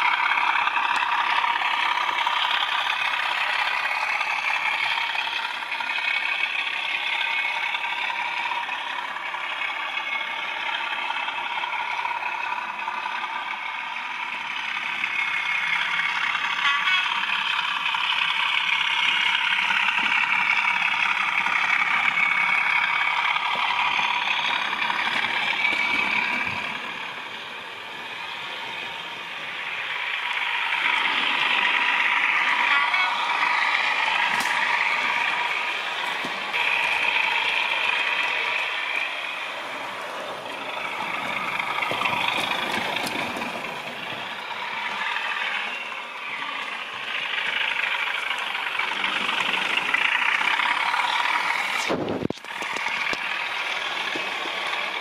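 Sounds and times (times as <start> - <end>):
model train diesel engine sound: 0.0 - 55.0
wheels rattling on track: 0.0 - 55.0.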